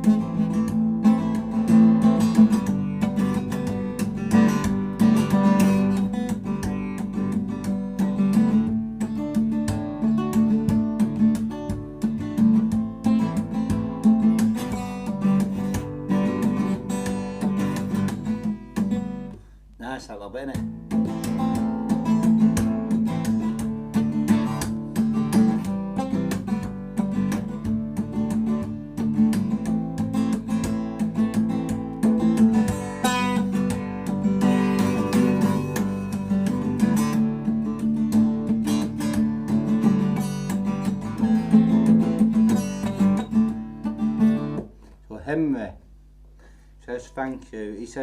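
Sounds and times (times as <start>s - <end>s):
acoustic guitar strumming: 0.0s - 45.7s.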